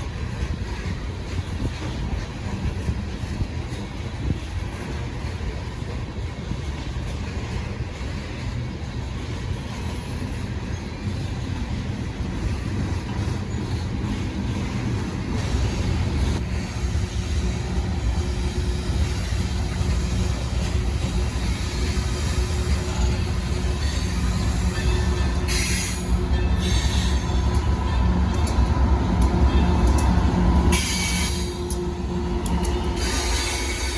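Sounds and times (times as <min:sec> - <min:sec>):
freight train rumbling: 0:00.0 - 0:33.9.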